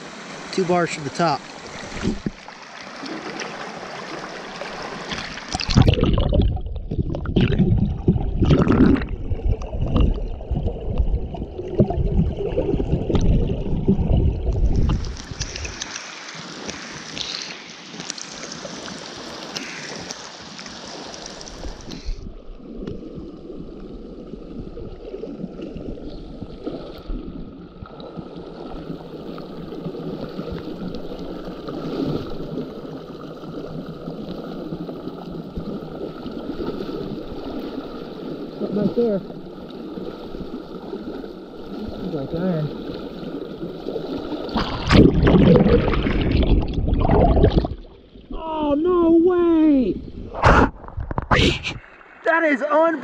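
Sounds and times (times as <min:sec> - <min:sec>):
river water rushing and gurgling: 0:00.0 - 0:06.6, 0:08.4 - 0:49.6, 0:50.3 - 0:53.0.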